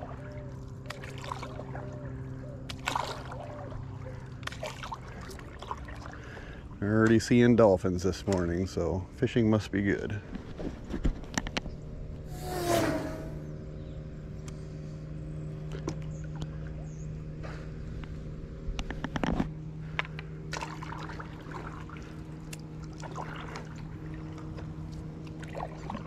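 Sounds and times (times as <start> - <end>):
steady low hum: 0.0 - 10.9, 11.5 - 26.0.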